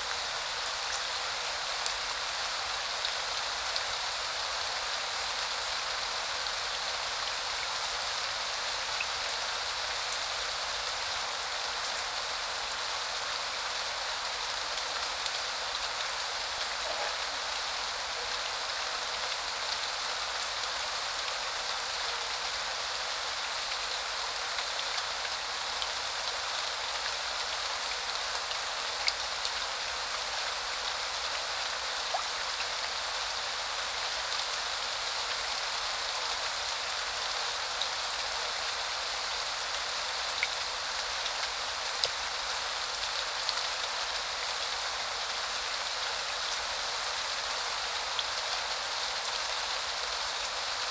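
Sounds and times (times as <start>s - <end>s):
rain falling: 0.0s - 50.9s.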